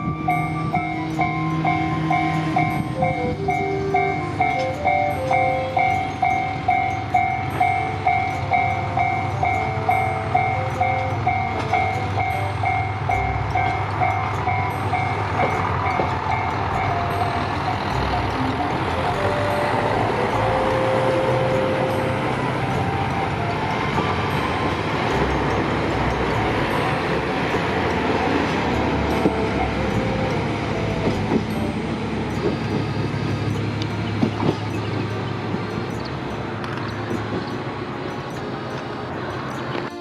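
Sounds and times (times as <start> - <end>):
diesel train running past: 0.0 - 40.0
level-crossing warning bell: 0.0 - 40.0.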